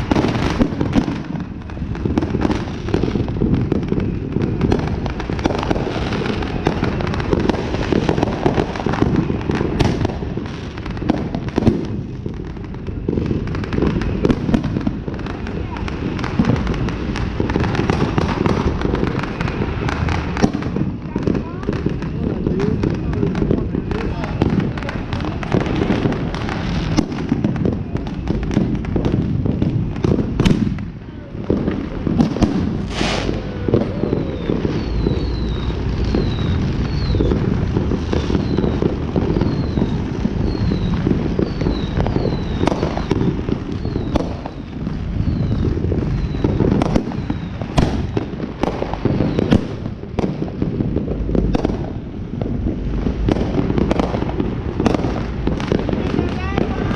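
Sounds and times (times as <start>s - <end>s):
fireworks crackling and banging: 0.0s - 56.9s
loud single firework bangs: 0.0s - 56.9s.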